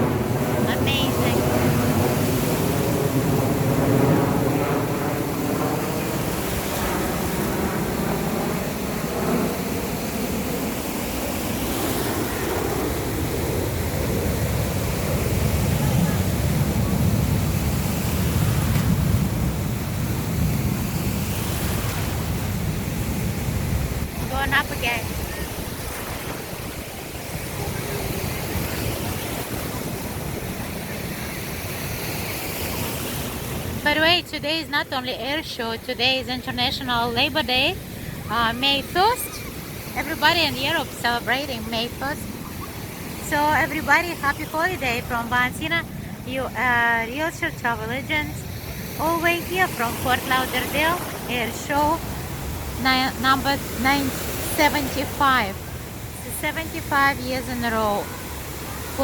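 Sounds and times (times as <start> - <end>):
aircraft engine rumble passing over: 0.0 - 59.0
noisy rushing haze: 0.0 - 59.0
wind buffeting microphone: 0.0 - 59.0.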